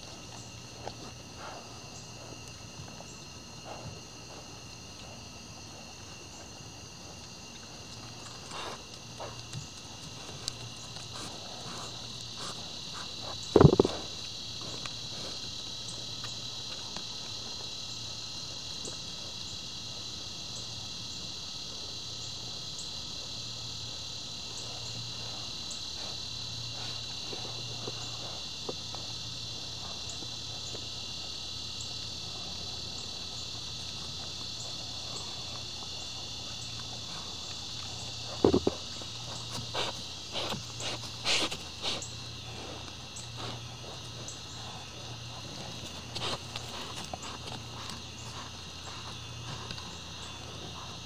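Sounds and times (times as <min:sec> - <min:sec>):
insects trilling: 0:00.0 - 0:51.0.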